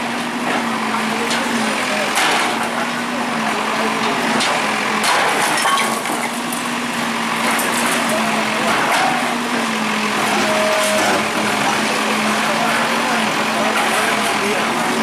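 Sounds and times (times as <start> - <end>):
bulldozer engine running: 0.0 - 15.0.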